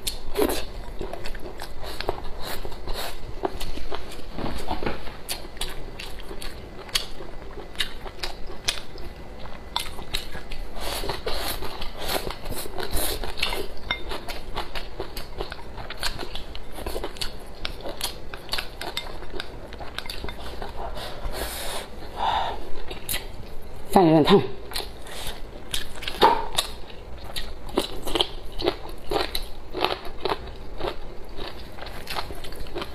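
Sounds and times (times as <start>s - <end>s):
close-up eating sounds: 0.0s - 32.9s.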